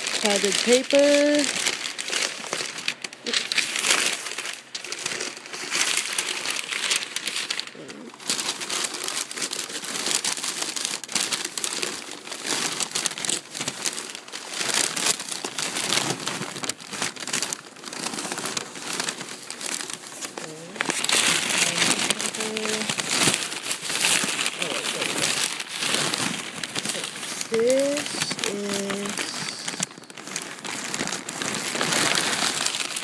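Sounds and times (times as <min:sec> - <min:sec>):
packing paper crinkling: 0:00.0 - 0:33.0.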